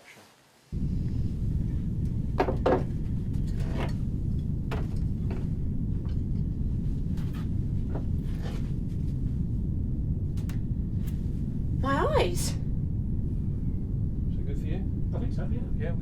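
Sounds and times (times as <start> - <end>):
low rumble: 0.7 - 16.0.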